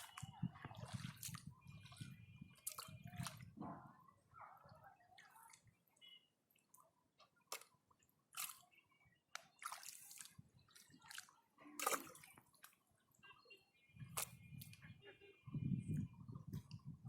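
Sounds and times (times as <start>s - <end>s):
water splashes and drips: 0.0s - 12.9s, 14.0s - 14.8s.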